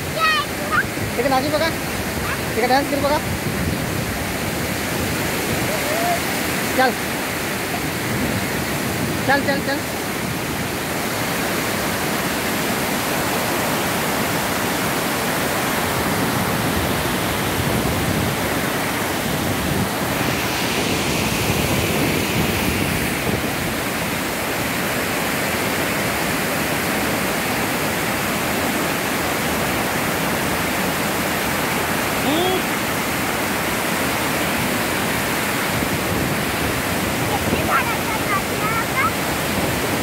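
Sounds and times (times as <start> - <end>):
water rushing over spillway: 0.0 - 40.0.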